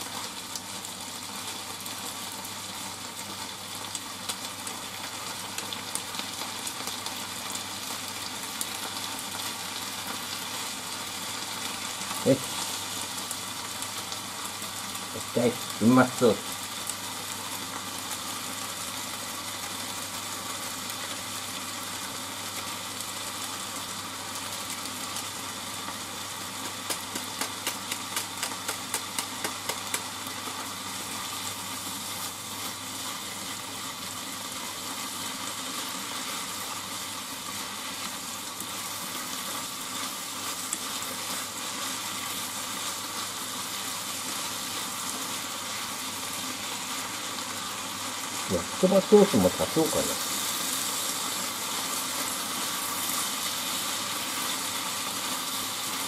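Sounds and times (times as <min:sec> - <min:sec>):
noodles sizzling in frying pan: 0:00.0 - 0:56.0.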